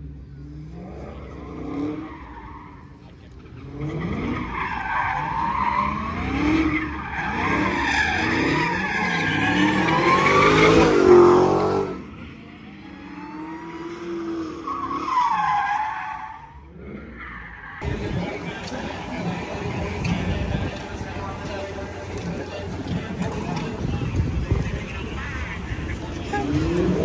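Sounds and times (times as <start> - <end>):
car tyres squealing: 1.4 - 12.3, 12.9 - 27.0.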